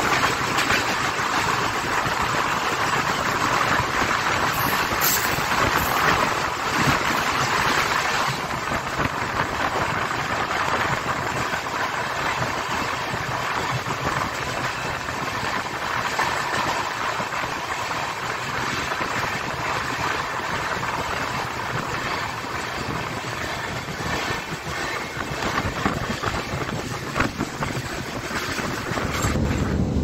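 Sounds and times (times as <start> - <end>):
passenger train running on rails: 0.0 - 30.0.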